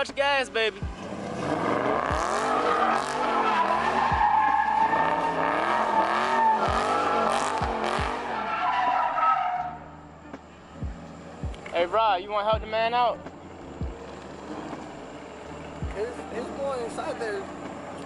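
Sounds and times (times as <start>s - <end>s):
car engine revving: 0.0s - 18.0s
tires squealing: 0.0s - 18.0s.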